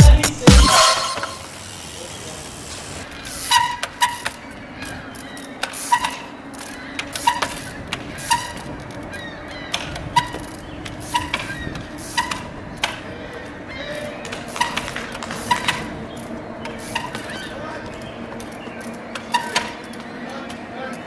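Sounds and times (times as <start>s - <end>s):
steady low hum: 0.0s - 21.0s
bike hopping clack with squeak: 0.7s - 13.2s, 13.8s - 21.0s.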